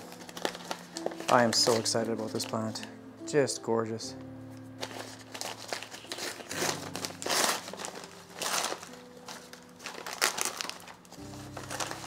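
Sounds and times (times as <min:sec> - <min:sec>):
paper wrapping crinkling: 0:00.0 - 0:03.0, 0:04.6 - 0:12.0
quiet background music: 0:00.0 - 0:12.0.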